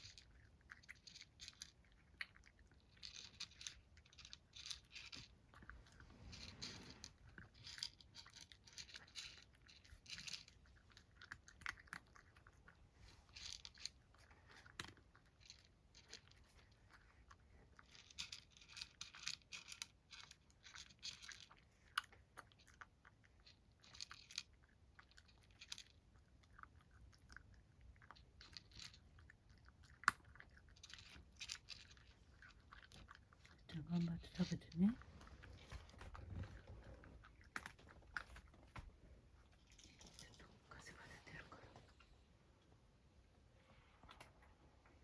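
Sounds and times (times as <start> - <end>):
cat chewing crisp food: 0.0 - 40.6.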